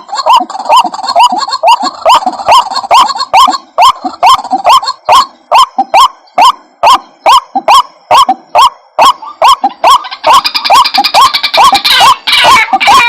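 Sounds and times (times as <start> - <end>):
waterhen calling harshly: 0.0 - 13.0.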